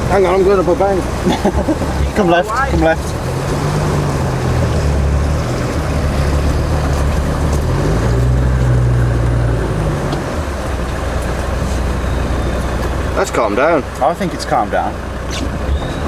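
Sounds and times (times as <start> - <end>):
water rushing: 0.0 - 15.2
diesel engine pulling: 0.0 - 16.0.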